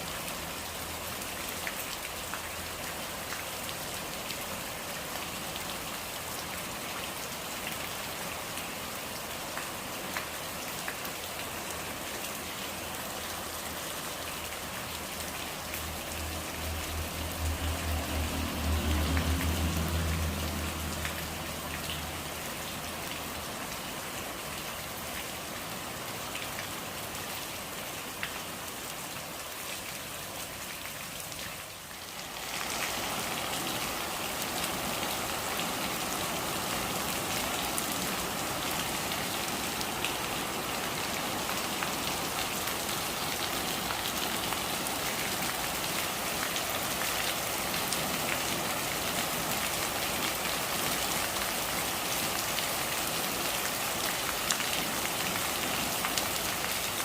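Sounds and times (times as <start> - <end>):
rain falling on surfaces: 0.0 - 57.0.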